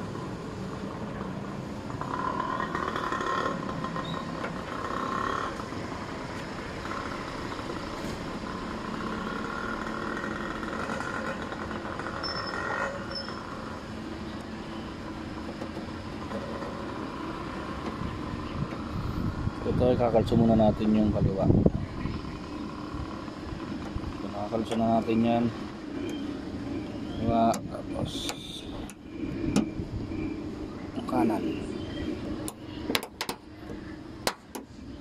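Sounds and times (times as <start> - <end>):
traffic going by: 0.0 - 35.0.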